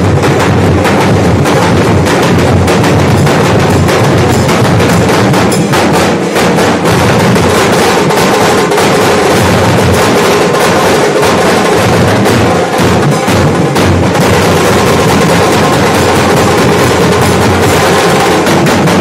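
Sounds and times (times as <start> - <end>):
large drums beaten with sticks: 0.0 - 19.0.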